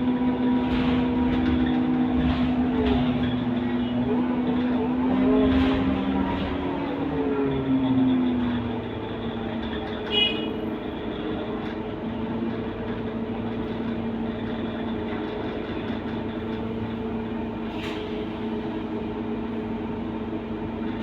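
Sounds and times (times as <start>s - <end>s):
bus diesel engine droning: 0.0s - 21.0s.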